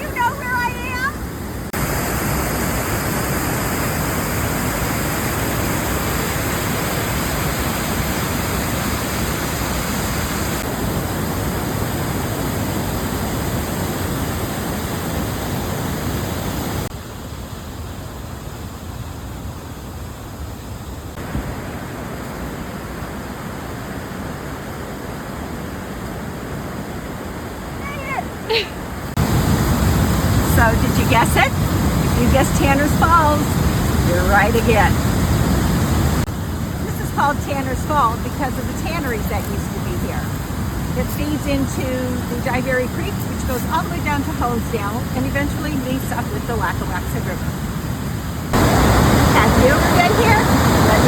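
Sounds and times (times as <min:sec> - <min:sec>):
waterfall roaring: 0:00.0 - 0:16.9, 0:20.8 - 0:51.0.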